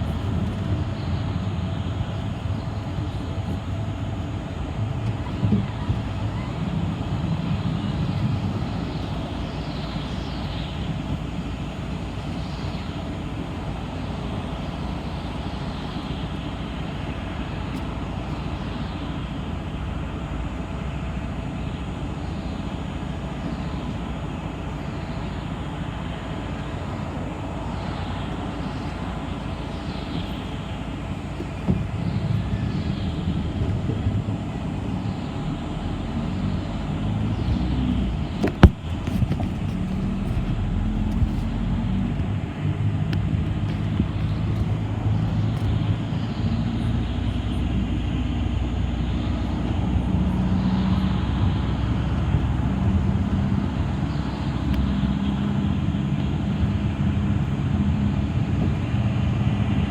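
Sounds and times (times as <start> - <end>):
bus engine and road noise: 0.0 - 59.9
heavy low rumble: 0.0 - 59.9.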